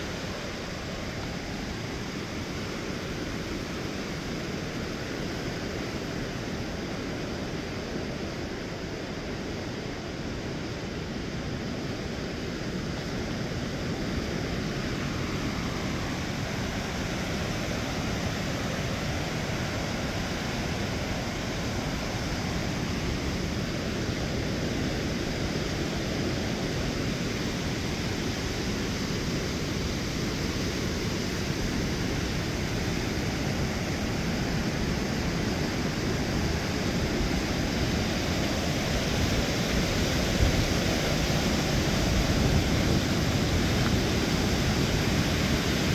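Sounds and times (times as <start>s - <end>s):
river water rushing over weir: 0.0s - 45.9s.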